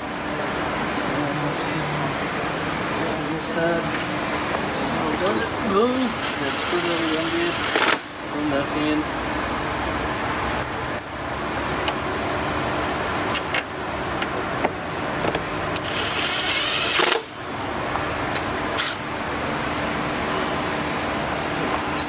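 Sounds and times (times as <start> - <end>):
shop hum: 0.0 - 22.0.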